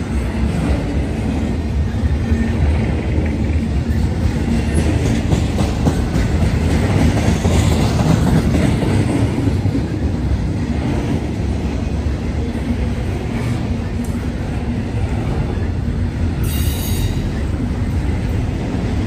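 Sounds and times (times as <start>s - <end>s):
freight train wheels rumbling: 0.0s - 19.0s
wheels clickety-clack on rail joints: 0.0s - 19.0s.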